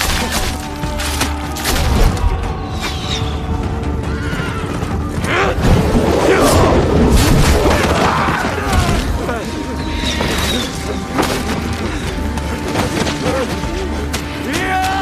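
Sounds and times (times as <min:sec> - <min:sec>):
dramatic orchestral score: 0:00.0 - 0:15.0.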